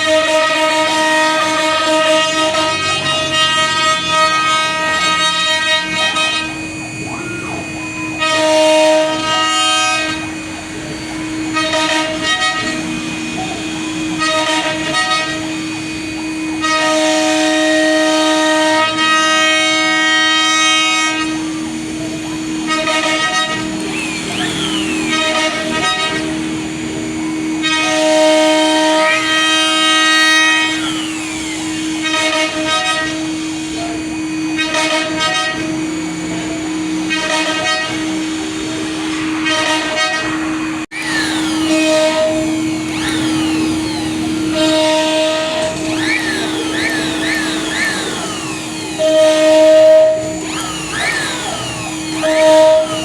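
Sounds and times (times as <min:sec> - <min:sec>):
axis motors gliding pitch: 0:00.0 - 0:53.0
router cutting through wood: 0:00.0 - 0:53.0
router spindle motor whine: 0:00.0 - 0:53.0.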